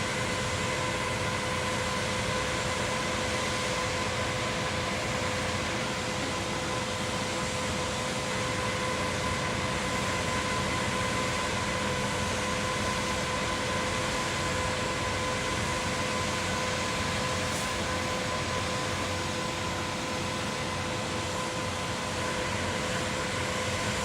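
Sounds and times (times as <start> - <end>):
concrete pump running: 0.0 - 24.0
steady mechanical whine: 0.0 - 24.0.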